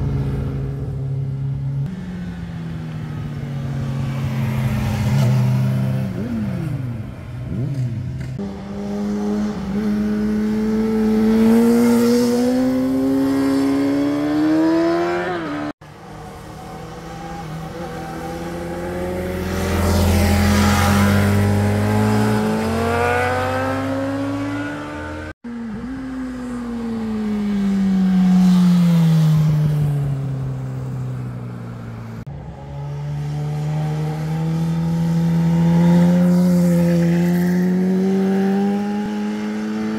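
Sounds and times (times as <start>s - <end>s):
motorcycle engines passing: 0.0s - 39.9s.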